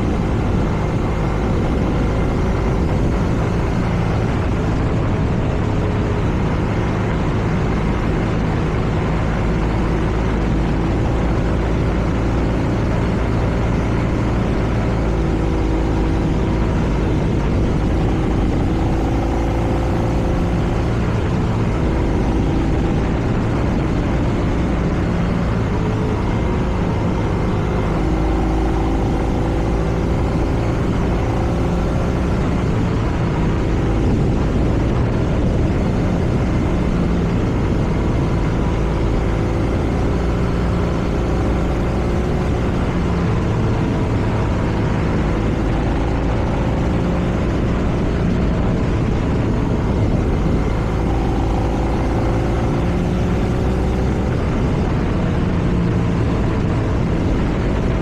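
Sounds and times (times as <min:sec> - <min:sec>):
motorcycle engine exhaust note: 0:00.0 - 0:58.0
wind rushing on microphone: 0:00.0 - 0:58.0.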